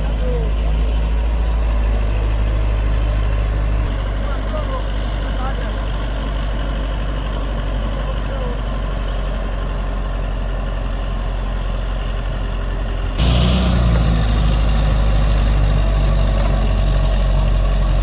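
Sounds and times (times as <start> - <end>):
diesel engine of heavy machine: 0.0 - 18.0.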